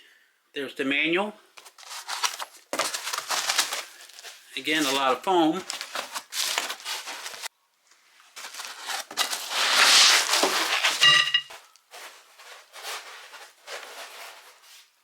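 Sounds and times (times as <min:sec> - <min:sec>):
foam packing rustling: 0:01.6 - 0:07.5, 0:08.2 - 0:15.0.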